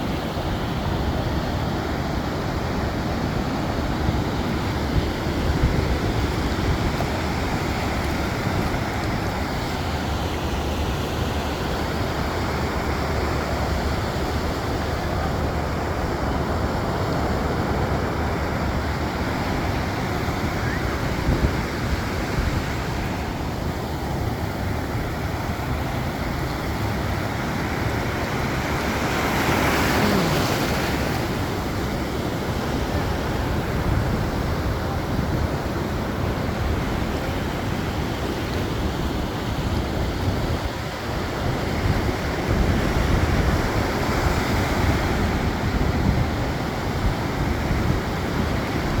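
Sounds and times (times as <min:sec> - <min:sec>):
waves breaking: 0:00.0 - 0:49.0
wind buffeting microphone: 0:00.0 - 0:49.0.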